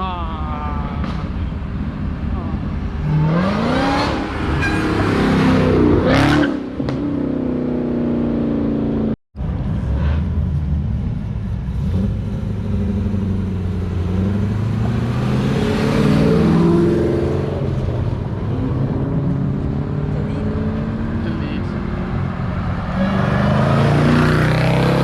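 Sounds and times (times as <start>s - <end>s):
car engine revving: 1.0s - 25.0s.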